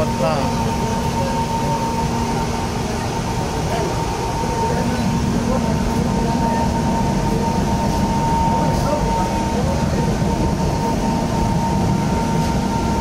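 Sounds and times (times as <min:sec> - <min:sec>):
constant high tone: 0:00.0 - 0:13.0
train running on rails: 0:00.0 - 0:13.0.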